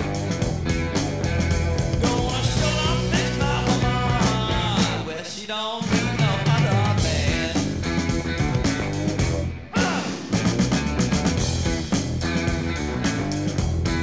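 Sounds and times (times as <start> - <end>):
bending electric guitar lines: 0.0 - 5.1, 5.9 - 14.0
blues rock band: 0.0 - 14.0.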